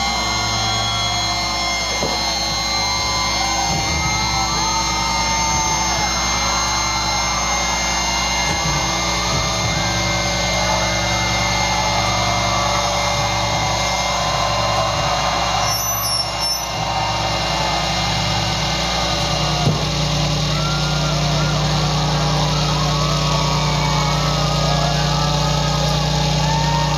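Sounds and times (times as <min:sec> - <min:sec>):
crowd cheering and shouting: 0:00.0 - 0:26.9
electric guitar feedback droning: 0:00.0 - 0:26.9.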